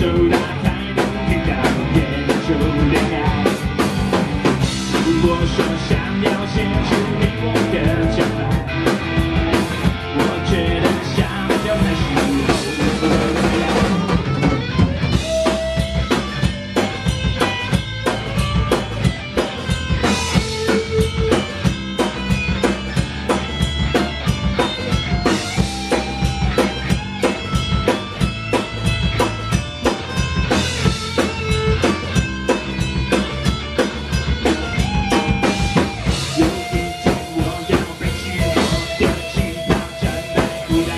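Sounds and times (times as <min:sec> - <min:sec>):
drum kit beat: 0:00.0 - 0:40.9
live band playing: 0:00.0 - 0:40.9.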